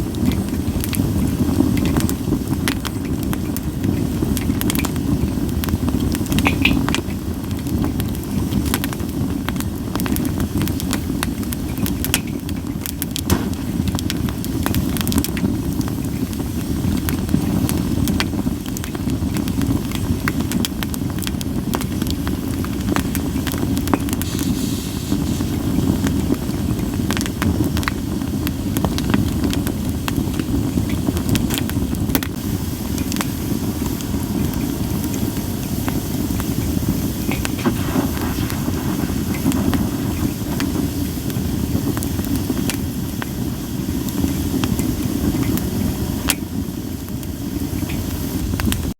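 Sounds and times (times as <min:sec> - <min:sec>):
campfire crackling and popping: 0:00.0 - 0:48.9
fire low rumble: 0:00.0 - 0:48.9.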